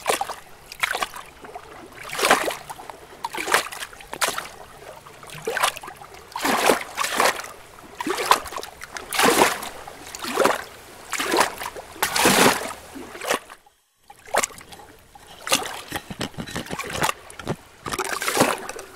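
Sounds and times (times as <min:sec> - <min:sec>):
pool water splashing and sloshing: 0:00.0 - 0:18.9.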